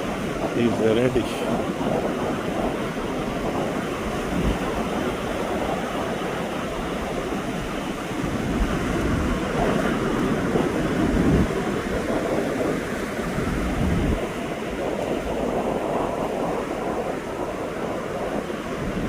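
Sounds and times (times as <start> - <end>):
ocean surf washing in: 0.0 - 19.0
wind buffeting microphone: 0.0 - 19.0.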